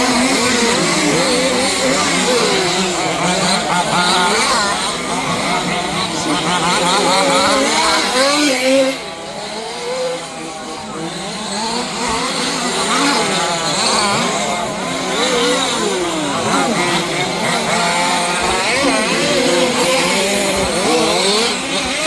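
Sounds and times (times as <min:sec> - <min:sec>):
small two-stroke engines racing: 0:00.0 - 0:22.0.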